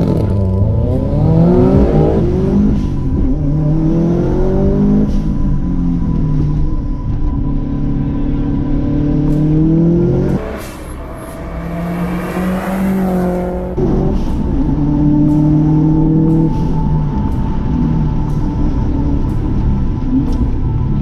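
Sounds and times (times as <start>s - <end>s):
car approaching: 0.0s - 21.0s
car engine revving: 0.0s - 21.0s.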